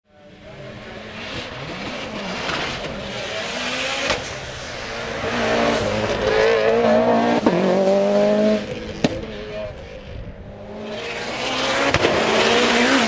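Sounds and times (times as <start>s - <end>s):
turbocharged car engine accelerating: 0.2s - 13.0s.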